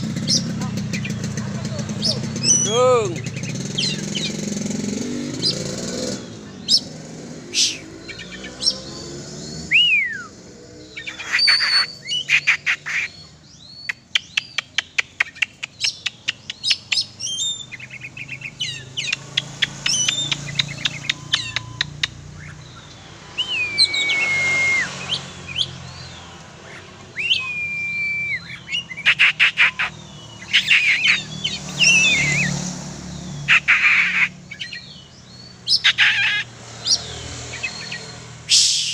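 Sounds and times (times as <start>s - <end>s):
bird singing chirps and whistles: 0.0s - 33.7s, 34.5s - 38.9s.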